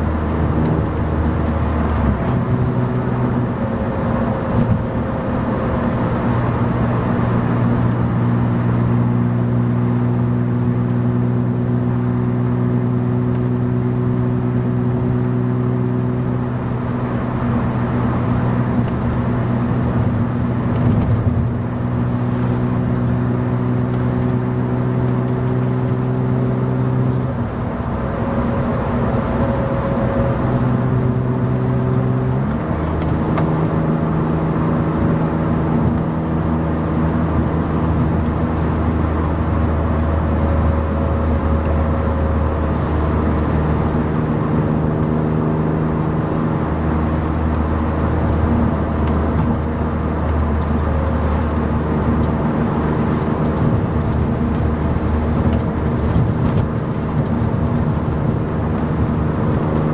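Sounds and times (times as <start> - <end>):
car exhaust drone in cabin: 0.0 - 59.9
tyre and road noise: 0.0 - 59.9.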